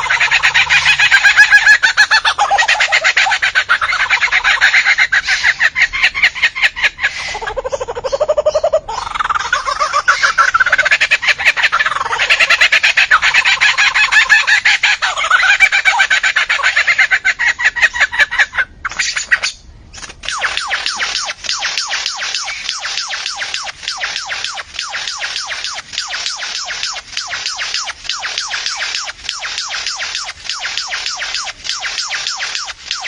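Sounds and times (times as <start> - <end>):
bird chattering and squawking: 0.0 - 33.0.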